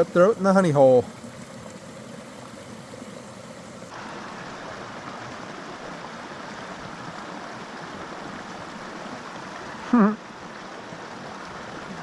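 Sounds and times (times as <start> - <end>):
creek flowing: 0.0 - 12.0.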